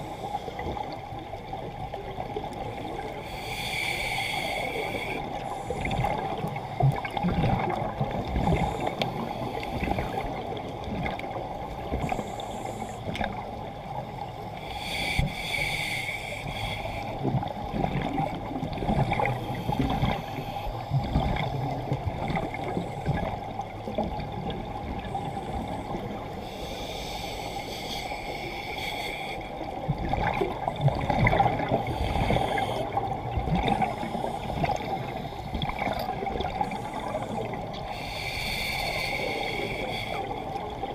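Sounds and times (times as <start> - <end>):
gurgling regulator bubbles: 0.0 - 16.0, 16.6 - 27.3, 28.1 - 40.9
muffled underwater rumble: 0.0 - 40.9.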